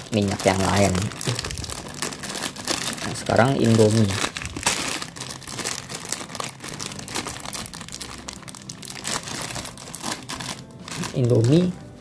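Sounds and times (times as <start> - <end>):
plastic packet tearing: 0.0 - 11.8
plastic wrapper crinkling: 0.0 - 12.0.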